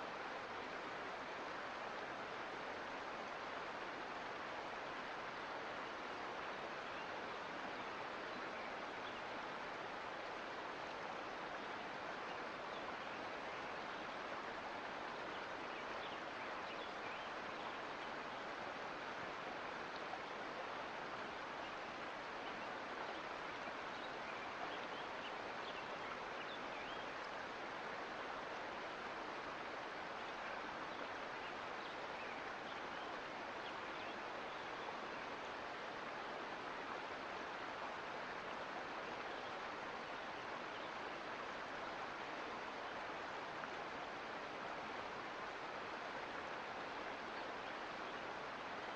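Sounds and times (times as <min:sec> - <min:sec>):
creek water rushing and splashing: 0:00.0 - 0:48.9.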